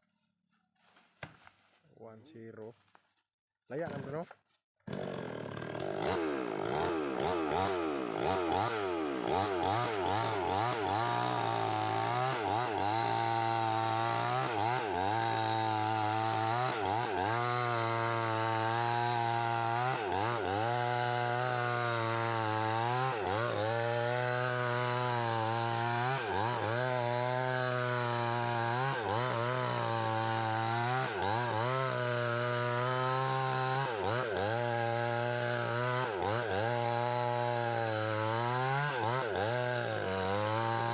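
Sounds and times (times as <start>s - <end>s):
chainsaw cutting wood: 3.8s - 40.9s.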